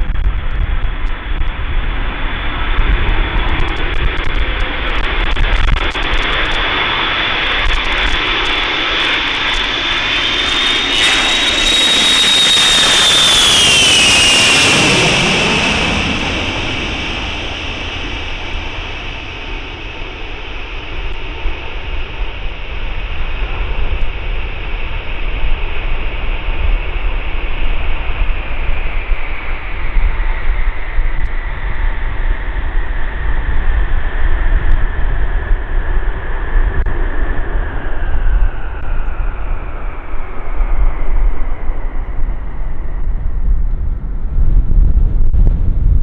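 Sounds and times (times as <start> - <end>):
heavy rumble: 0.0 - 46.0
jet engine whine: 0.0 - 46.0
wind buffeting microphone: 0.0 - 46.0.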